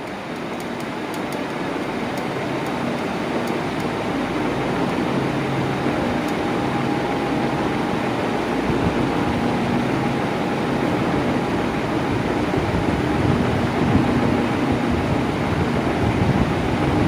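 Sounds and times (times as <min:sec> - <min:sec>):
electric fan air rush: 0:00.0 - 0:17.0
faint motor hum: 0:00.0 - 0:17.0.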